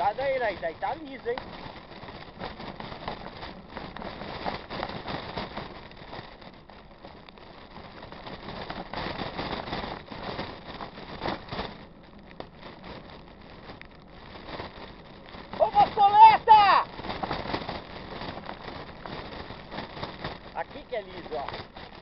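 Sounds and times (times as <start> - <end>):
bike rattling: 0.0 - 22.0
bike tyres crackling on gravel: 0.0 - 22.0.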